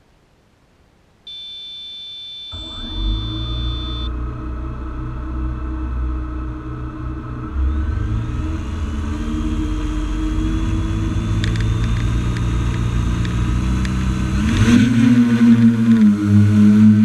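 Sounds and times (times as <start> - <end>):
drone motors whirring: 1.3 - 17.0.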